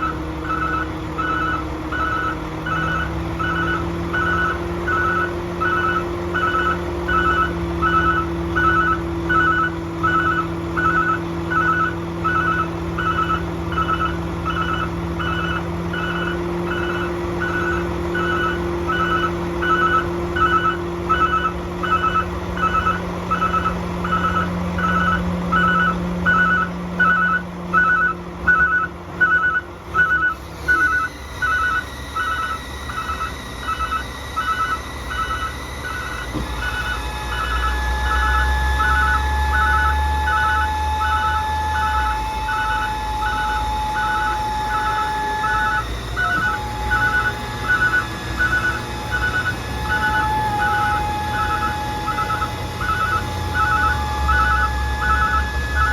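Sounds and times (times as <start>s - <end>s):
diesel engine running: 0.0s - 55.9s
truck backup alarm beeping: 0.0s - 55.9s.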